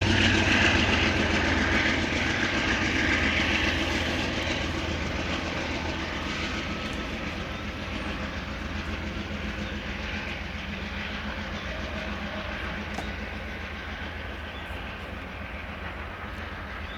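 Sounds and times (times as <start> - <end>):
diesel locomotive engine hum: 0.0 - 16.9
wheel and rail noise: 0.0 - 16.9.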